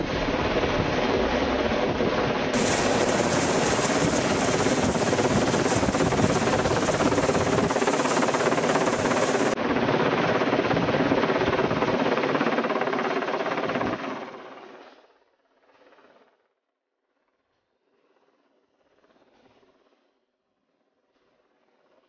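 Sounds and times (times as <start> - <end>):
helicopter hovering overhead: 0.0 - 16.6, 17.9 - 20.0.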